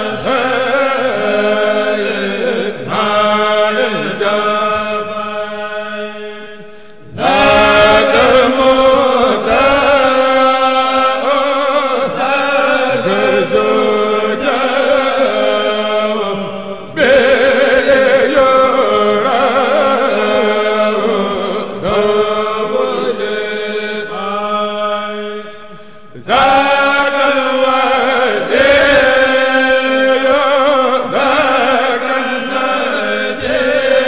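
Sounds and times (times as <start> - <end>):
men chanting in unison: 0.0 - 34.0.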